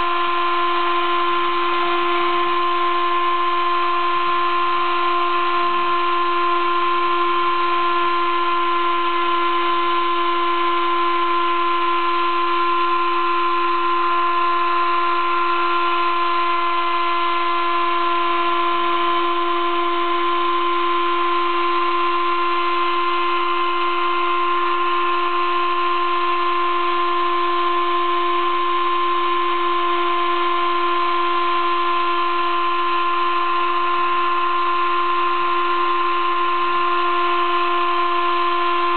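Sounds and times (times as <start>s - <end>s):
faint machine tone: 0.0s - 38.9s
milling machine whine: 0.0s - 38.9s.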